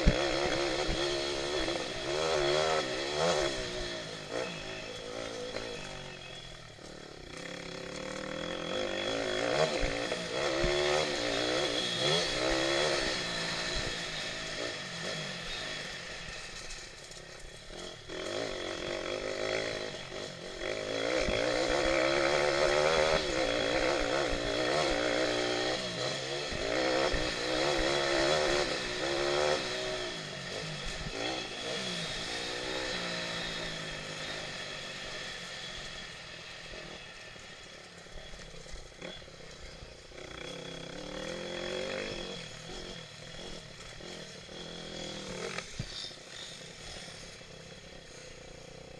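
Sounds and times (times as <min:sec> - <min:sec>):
pit bike engines revving: 0:00.0 - 0:48.9.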